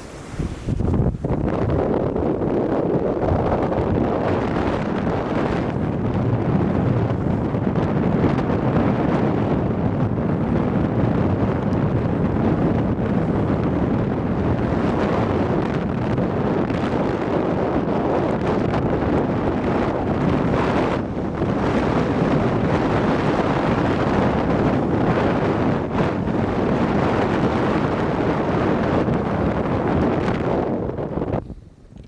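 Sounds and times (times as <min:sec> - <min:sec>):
boat moving through choppy water: 0:00.0 - 0:32.0
wind buffeting microphone: 0:00.0 - 0:32.0.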